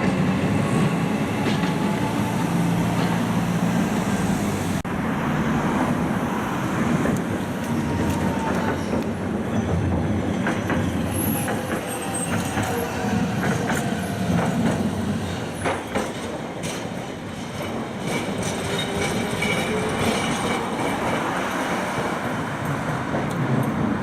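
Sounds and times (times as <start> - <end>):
train rolling rumble: 0.0 - 24.0.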